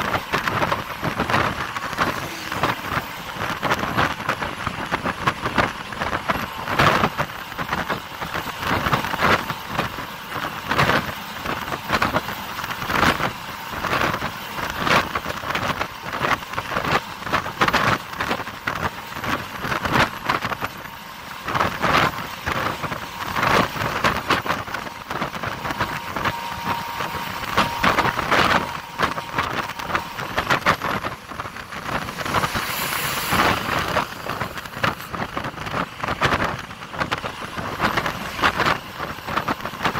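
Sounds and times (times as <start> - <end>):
bus road noise: 0.0 - 39.9
wind buffeting microphone: 0.0 - 39.9.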